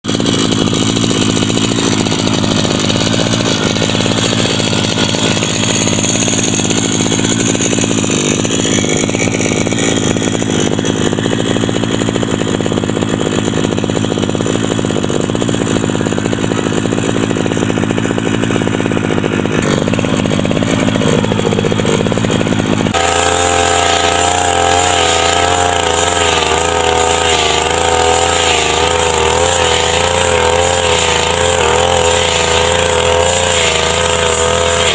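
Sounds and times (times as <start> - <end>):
brush cutter engine running: 0.0 - 34.9.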